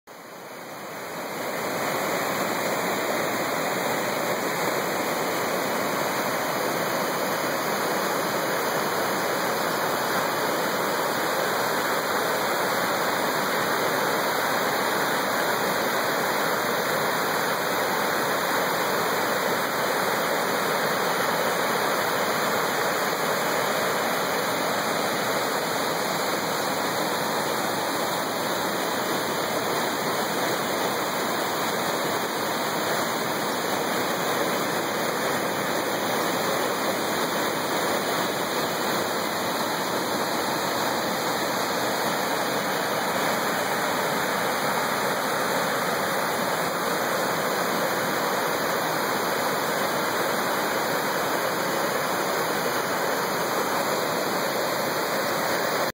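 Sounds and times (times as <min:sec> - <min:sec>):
waterfall rushing over rock: 0:00.1 - 0:55.9.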